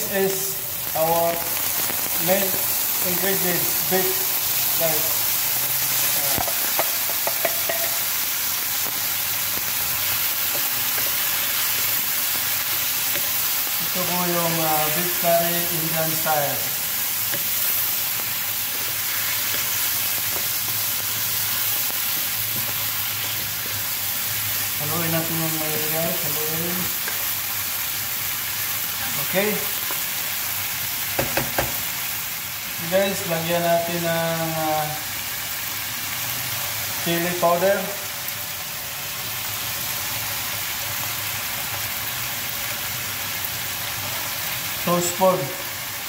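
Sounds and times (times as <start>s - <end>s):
meat sizzling in a wok: 0.0s - 46.0s.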